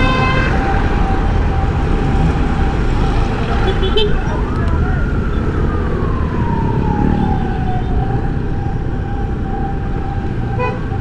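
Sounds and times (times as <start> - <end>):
emergency siren wailing: 0.0 - 11.0
traffic rumble: 0.0 - 11.0.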